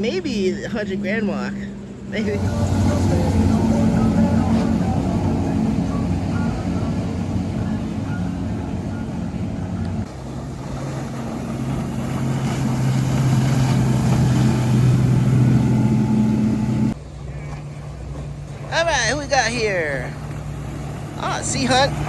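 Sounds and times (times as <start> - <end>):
motorboat engines running: 0.0 - 22.0.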